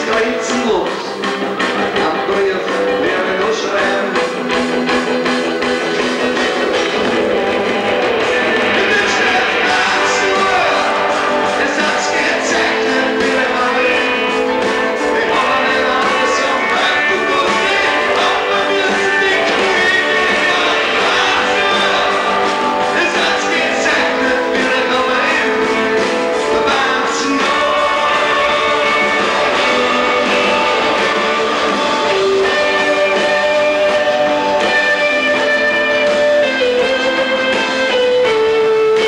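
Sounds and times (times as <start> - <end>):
guitars holding long notes: 0.0 - 39.0
live rock band playing: 0.0 - 39.0.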